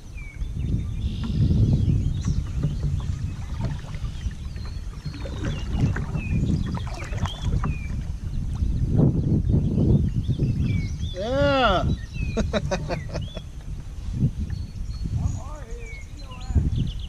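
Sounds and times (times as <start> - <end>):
water rumble: 0.0 - 17.0
wind on microphone: 0.0 - 17.0.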